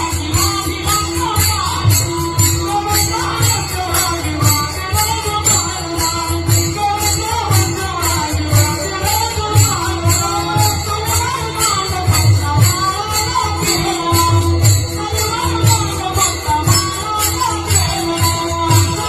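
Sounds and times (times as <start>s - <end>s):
drum beats: 0.0s - 19.0s
jingling percussion: 0.0s - 19.0s.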